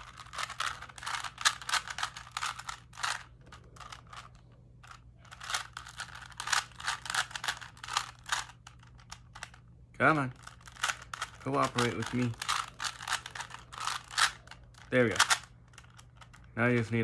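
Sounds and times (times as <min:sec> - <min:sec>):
puzzle cube clicking and clattering: 0:00.0 - 0:09.6, 0:10.2 - 0:17.0.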